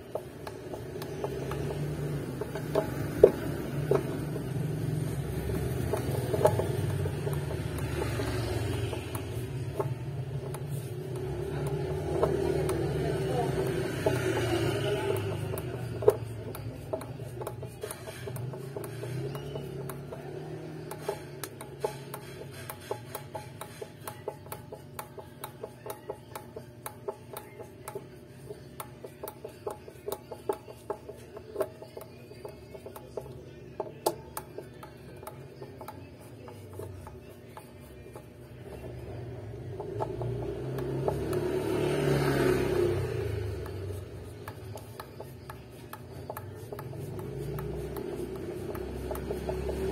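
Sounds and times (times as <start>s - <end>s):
background music: 0.0s - 49.9s.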